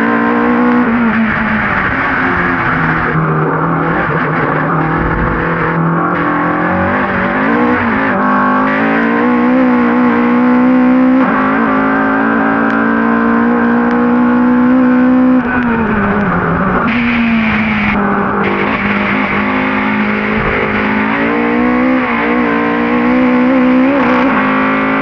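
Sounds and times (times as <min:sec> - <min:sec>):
race car engine under hard load: 0:00.0 - 0:25.0.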